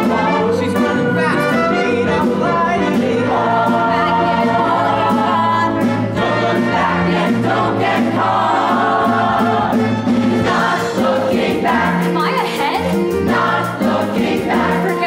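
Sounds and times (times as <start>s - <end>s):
ensemble singing in chorus: 0.0s - 12.2s, 13.2s - 15.0s
instrumental accompaniment: 0.0s - 15.0s
steady drum beat: 0.0s - 15.0s.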